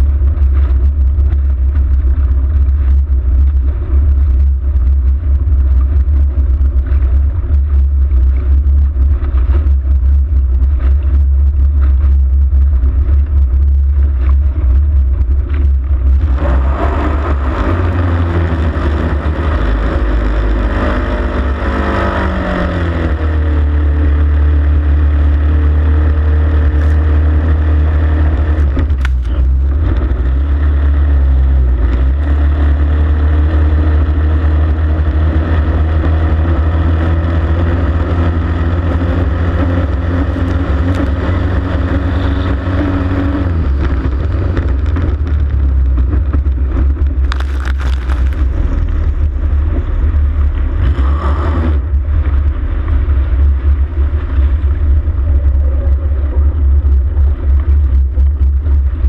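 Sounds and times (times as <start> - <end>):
boat engine running flat out: 0.0 - 59.0
rush of wind and water: 0.0 - 59.0.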